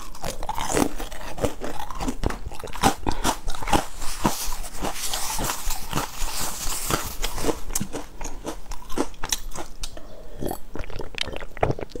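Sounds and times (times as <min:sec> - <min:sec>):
chewing crunchy biscuit: 0:00.0 - 0:12.0.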